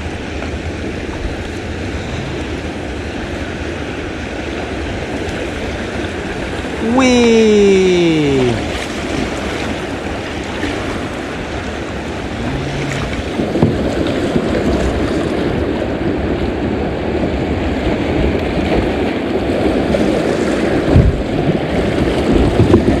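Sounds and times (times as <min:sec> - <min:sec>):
water rushing through rapid: 0:00.0 - 0:23.0.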